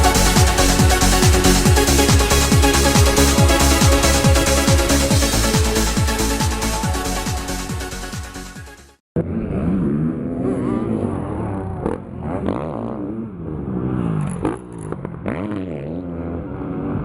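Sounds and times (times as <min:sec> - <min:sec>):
motocross engines revving: 0:00.0 - 0:07.2, 0:09.2 - 0:17.0.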